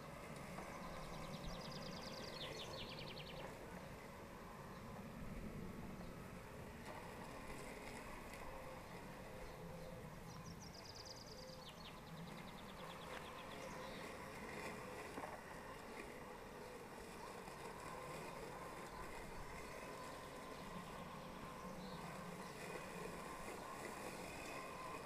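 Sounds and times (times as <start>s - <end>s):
robotic lawnmower motor whir: 0.0s - 25.0s.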